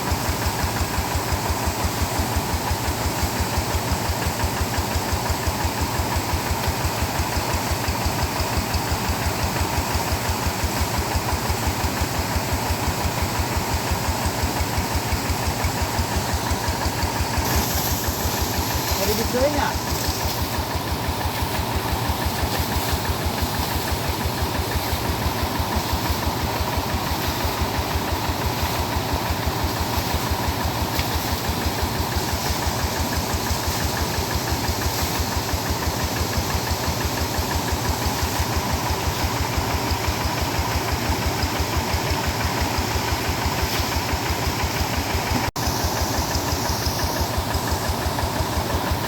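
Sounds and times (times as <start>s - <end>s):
tractor engine chugging: 0.0s - 49.0s.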